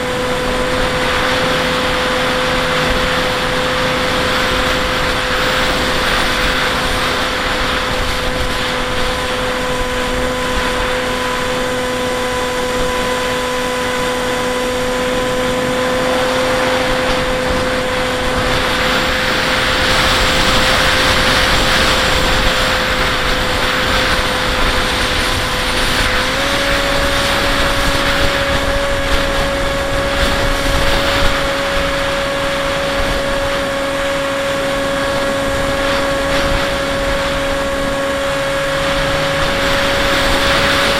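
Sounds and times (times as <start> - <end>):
electric motor and propeller whine: 0.0 - 40.9
rushing wind noise: 0.0 - 40.9.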